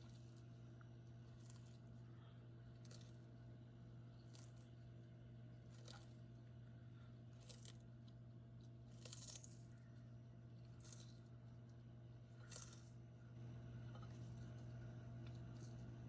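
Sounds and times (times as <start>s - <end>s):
steady low hum: 0.0s - 16.0s
tortoise crunching food: 0.0s - 16.0s.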